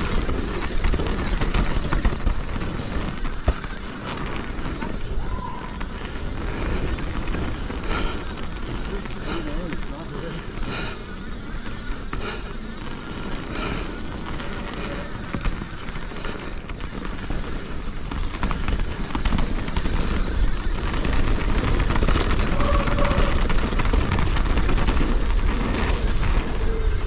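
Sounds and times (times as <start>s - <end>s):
bike rattling clicks and knocks: 0.0s - 27.0s
bike rolling rumble on dirt: 0.0s - 27.0s.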